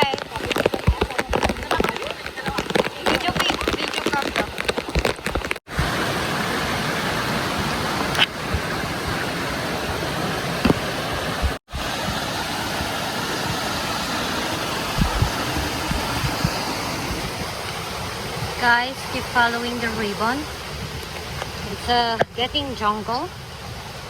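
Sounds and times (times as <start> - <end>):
flowing water rushing: 0.0 - 24.0.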